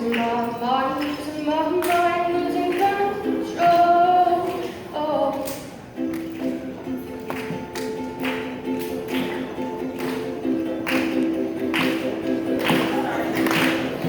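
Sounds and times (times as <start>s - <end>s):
instrumental accompaniment: 1.0s - 14.0s.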